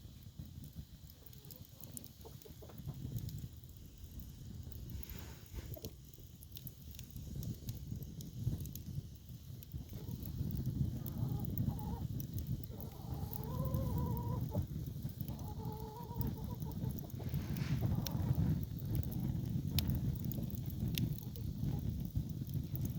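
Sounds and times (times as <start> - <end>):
firewood crackling and popping: 0.0 - 22.9.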